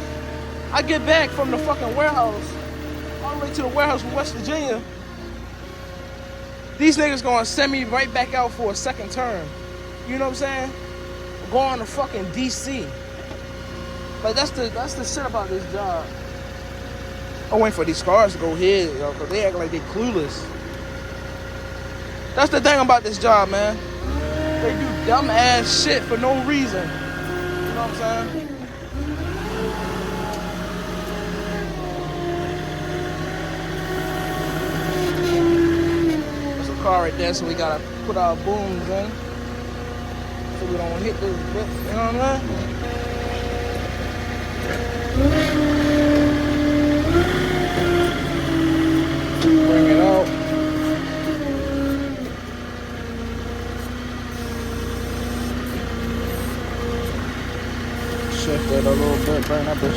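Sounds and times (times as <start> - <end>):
hydraulic whine: 0.0 - 59.9
truck engine running: 0.0 - 59.9.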